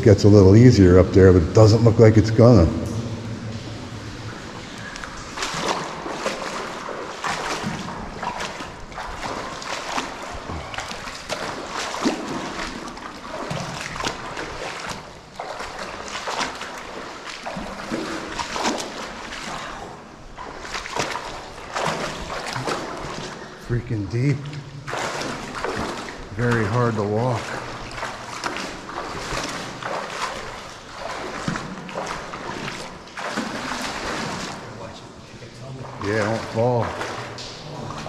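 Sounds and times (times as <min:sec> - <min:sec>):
wading through muddy water: 0:00.0 - 0:38.0.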